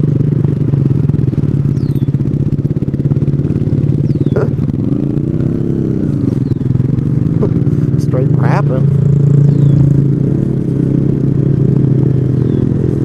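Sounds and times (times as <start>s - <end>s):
engine revving: 0.0s - 13.0s
motorcycle engine running: 0.0s - 13.0s.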